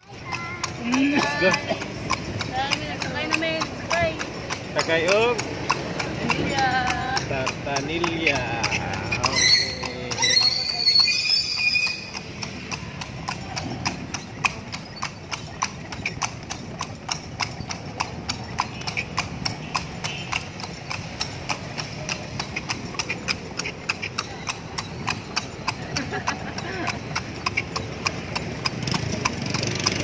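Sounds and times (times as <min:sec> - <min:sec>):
horse hooves on paved road: 0:00.0 - 0:30.0
voices: 0:00.0 - 0:30.0.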